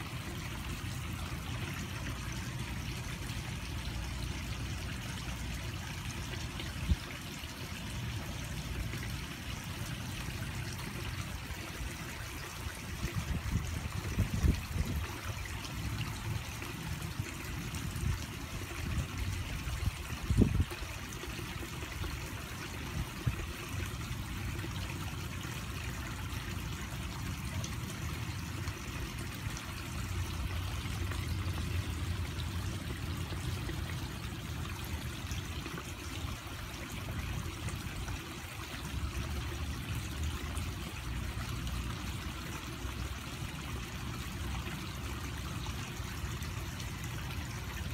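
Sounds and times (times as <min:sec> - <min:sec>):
water trickling over rocks: 0:00.0 - 0:47.9.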